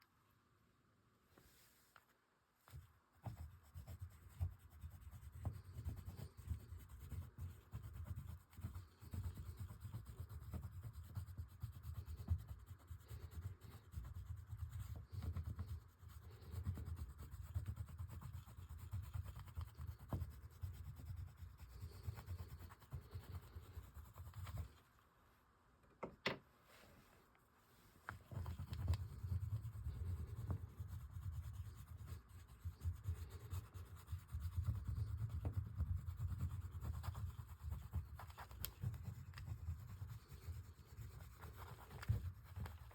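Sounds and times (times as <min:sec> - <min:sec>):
pastels rubbing on paper: 0:02.7 - 0:24.9, 0:28.1 - 0:42.9.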